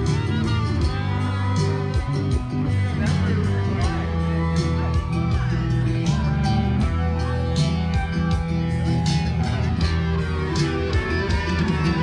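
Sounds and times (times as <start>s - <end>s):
amplified guitar band music: 0.0s - 12.0s.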